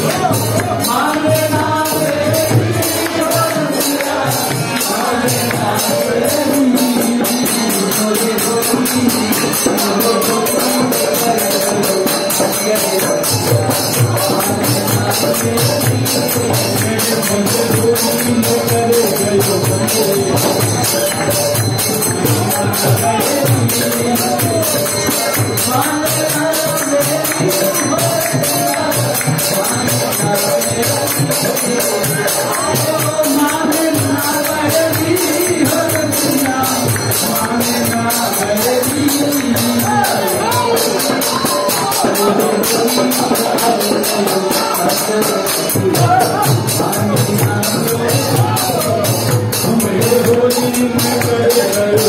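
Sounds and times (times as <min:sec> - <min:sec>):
jingling percussion beat: 0:00.0 - 0:52.0
person singing devotional melody: 0:00.0 - 0:52.0.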